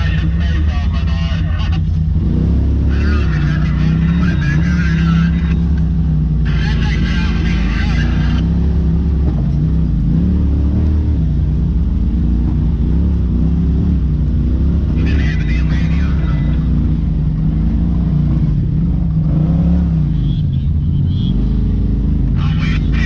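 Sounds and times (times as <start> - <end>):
off-road vehicle engine: 0.0 - 23.0.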